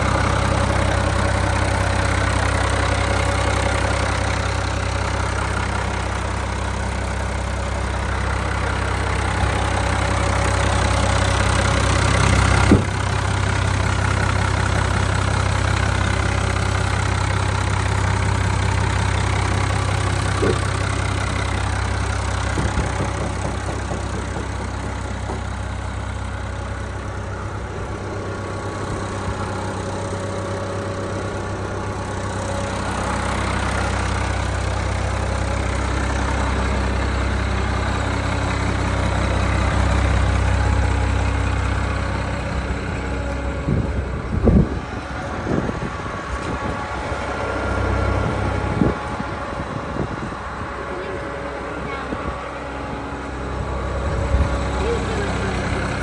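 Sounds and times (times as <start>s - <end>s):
diesel tractor idling: 0.0s - 56.0s.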